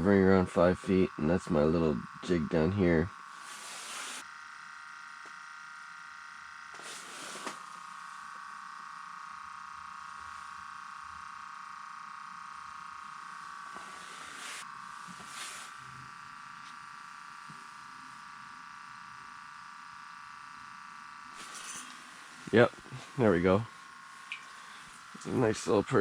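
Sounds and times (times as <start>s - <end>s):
steady high hum: 0.0s - 26.0s.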